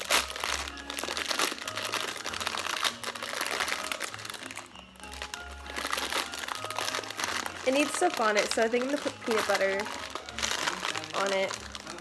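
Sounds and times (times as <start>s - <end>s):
background music of held notes: 0.0s - 12.0s
plastic bag crinkling: 0.0s - 12.0s.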